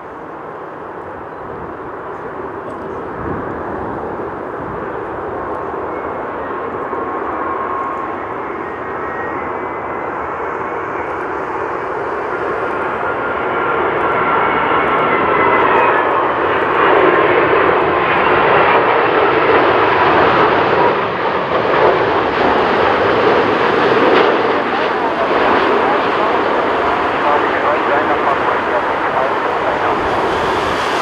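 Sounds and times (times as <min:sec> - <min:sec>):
jet engines roaring: 0:00.0 - 0:31.0
jet engine whine sliding down: 0:00.1 - 0:31.0.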